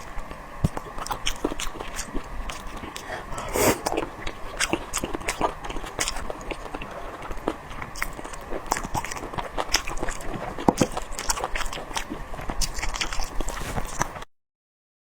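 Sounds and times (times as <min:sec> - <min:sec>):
chewing and biting with wet crunches: 0:00.0 - 0:14.3.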